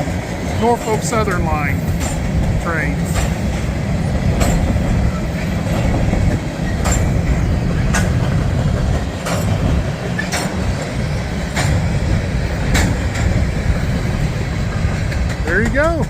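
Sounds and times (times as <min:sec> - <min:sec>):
freight train rumbling past: 0:00.0 - 0:16.0
wheel clacks over rail joints: 0:00.0 - 0:16.0.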